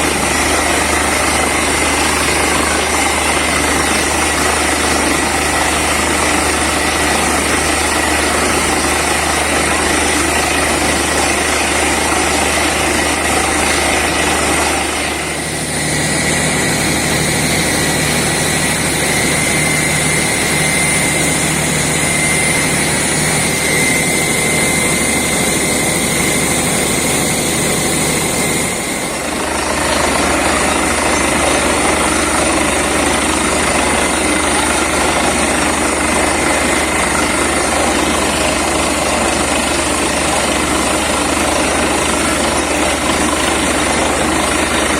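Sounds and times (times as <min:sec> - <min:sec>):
air compressor running: 0:00.0 - 0:44.9
drilling rig running: 0:00.0 - 0:44.9
steady engine note: 0:00.0 - 0:44.9.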